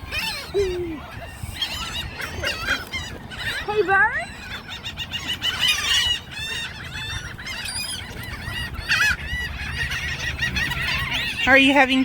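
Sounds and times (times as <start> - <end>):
flock of birds squawking: 0.0 - 12.0.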